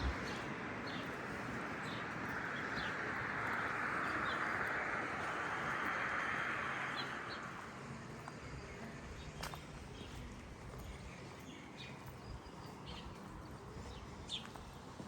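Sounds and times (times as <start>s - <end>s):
small birds chirping: 0.0s - 5.9s, 6.6s - 15.0s.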